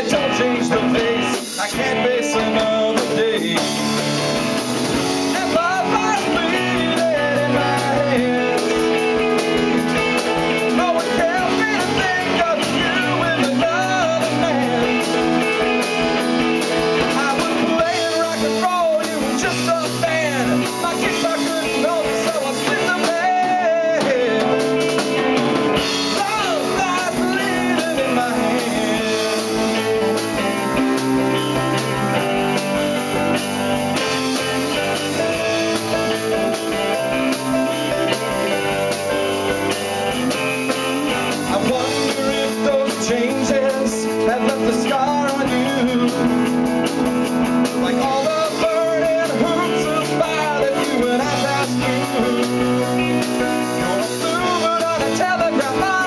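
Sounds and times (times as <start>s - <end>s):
digital piano: 0.0s - 56.0s
drum kit: 0.0s - 56.0s
electric guitar: 0.0s - 56.0s.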